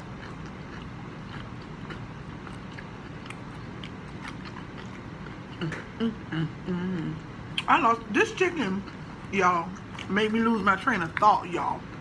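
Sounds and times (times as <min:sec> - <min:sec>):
chewing crispy food: 0:00.0 - 0:06.2, 0:07.2 - 0:12.0.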